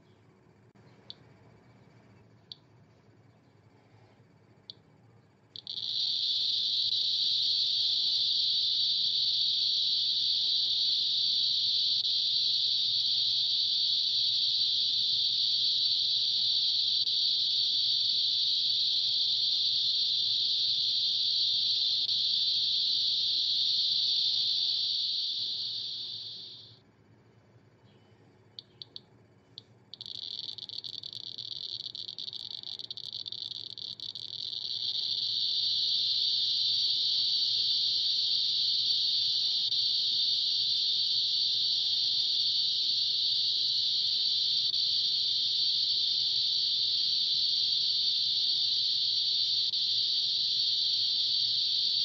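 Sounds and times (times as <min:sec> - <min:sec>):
geiger counter clicking: 0:05.5 - 0:26.8, 0:28.5 - 0:52.0.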